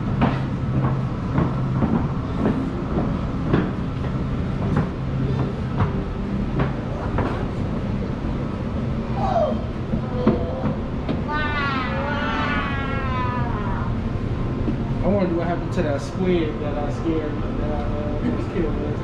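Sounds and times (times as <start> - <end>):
low rumbling hum: 0.0 - 19.0.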